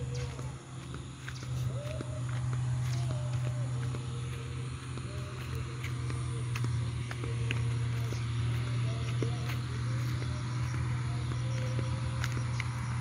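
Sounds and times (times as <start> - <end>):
insects chirping: 0.0 - 13.0
steady low hum: 0.0 - 13.0.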